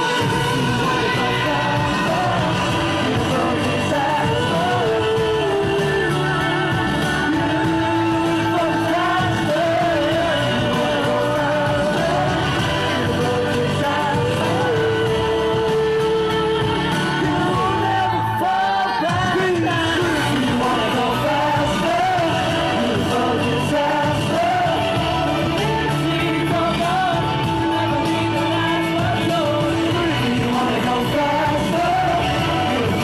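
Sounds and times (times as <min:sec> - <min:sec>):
amplified pop band: 0:00.0 - 0:33.0
person singing: 0:00.0 - 0:33.0.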